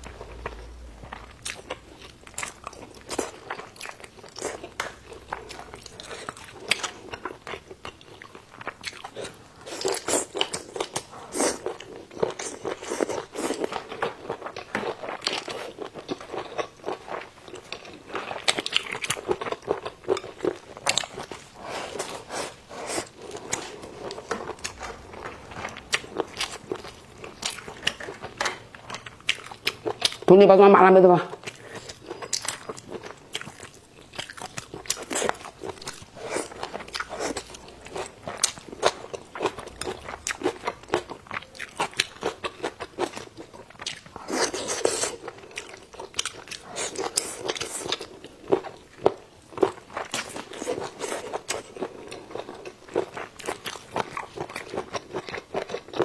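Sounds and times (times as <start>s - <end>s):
person chewing food: 0.0s - 30.3s, 31.3s - 56.0s.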